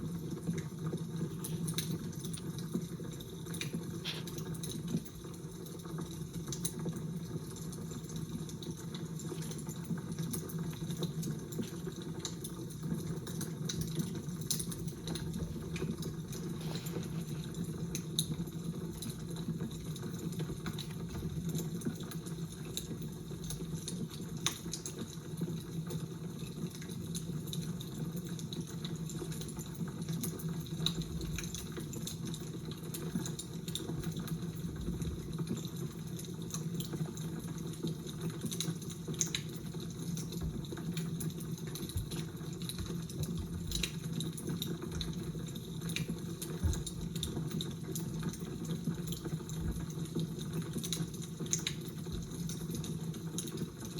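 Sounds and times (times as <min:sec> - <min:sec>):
fire crackling: 0:00.1 - 0:53.9.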